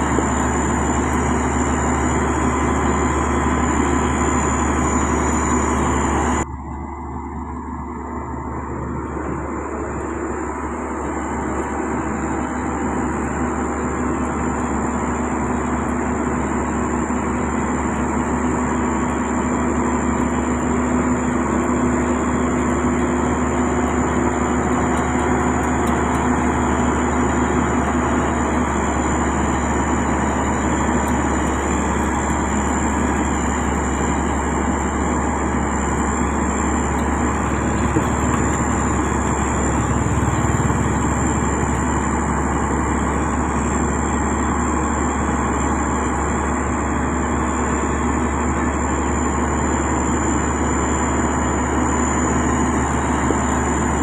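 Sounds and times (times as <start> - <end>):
heavy machinery diesel engines: 0.0 - 54.0
thin high whine: 0.0 - 54.0.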